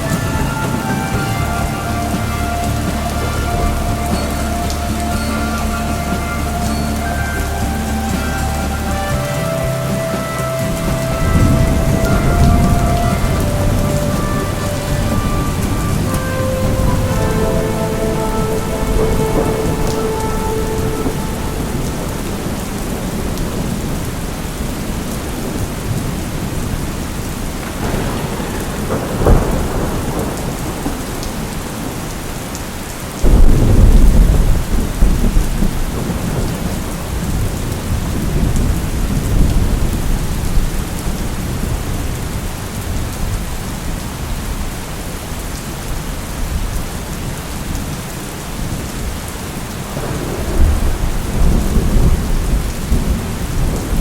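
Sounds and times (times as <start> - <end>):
thunder: 0.0 - 44.8, 48.6 - 54.0
heavy rain: 0.0 - 54.0.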